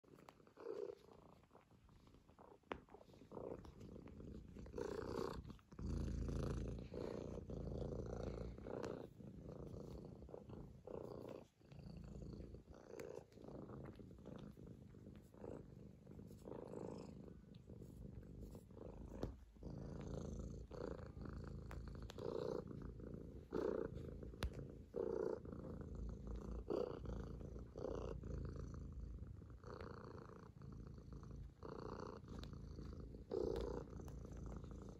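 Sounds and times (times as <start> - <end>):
kitten purring: 0.0 - 34.9.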